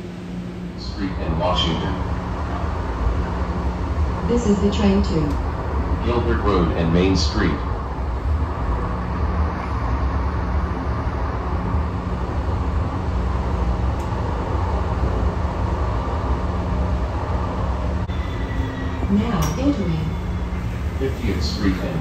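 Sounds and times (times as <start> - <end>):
low hum: 0.0 - 22.0
train wheels rumbling on rails: 0.8 - 22.0.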